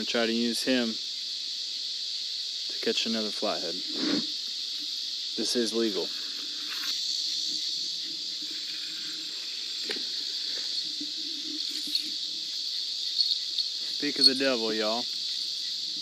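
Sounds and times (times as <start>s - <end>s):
crickets and night insects: 0.0s - 16.0s.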